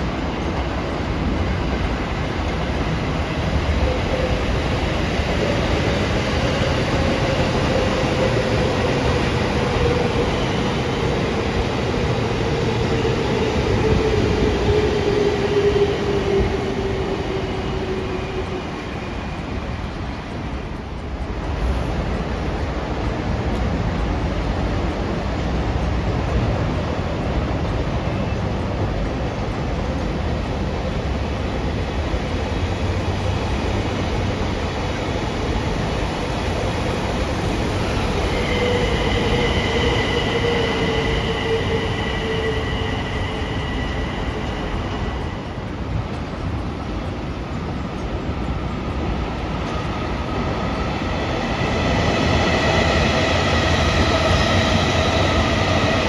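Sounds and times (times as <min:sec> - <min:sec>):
high-pitched whine: 0:00.0 - 0:56.0
train rumbling on rails: 0:00.0 - 0:56.0.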